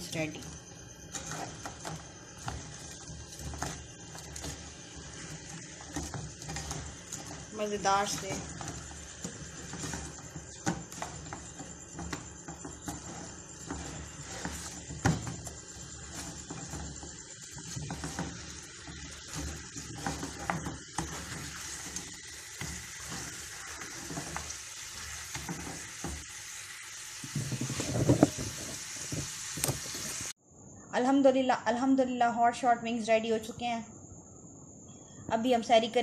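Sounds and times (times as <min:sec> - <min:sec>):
spatula scraping pan: 0:00.0 - 0:26.3, 0:27.2 - 0:30.3
chicken wings sizzling in pan: 0:00.0 - 0:30.4.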